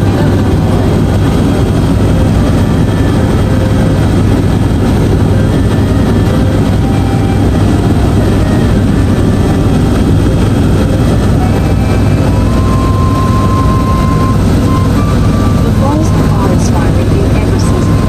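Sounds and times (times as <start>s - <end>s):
helicopter rotor and engine drone: 0.0s - 18.0s.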